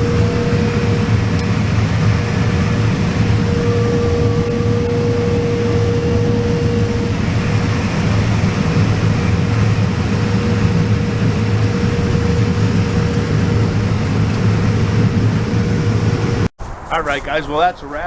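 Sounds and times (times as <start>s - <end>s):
combine harvester running: 0.0s - 16.5s.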